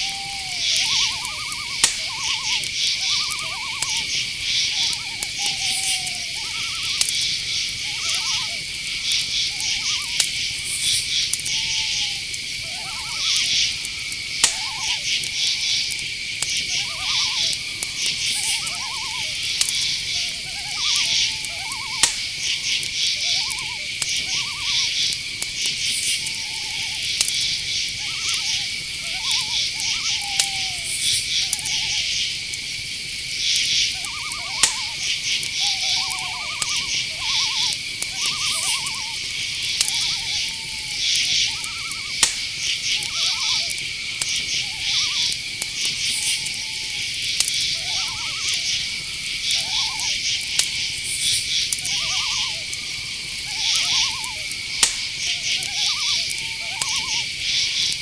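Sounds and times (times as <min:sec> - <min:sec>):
short chirping calls: 0:00.0 - 0:32.2, 0:33.5 - 0:58.0
crickets trilling: 0:00.0 - 0:58.0
sharp clicks: 0:00.7 - 0:11.6, 0:13.3 - 0:28.0, 0:33.6 - 0:35.7, 0:36.6 - 0:52.0, 0:52.7 - 0:58.0.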